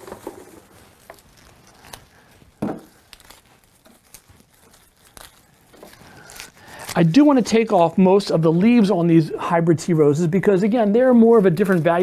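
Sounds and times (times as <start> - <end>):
rose stems and leaves rustling: 0.0 - 12.0.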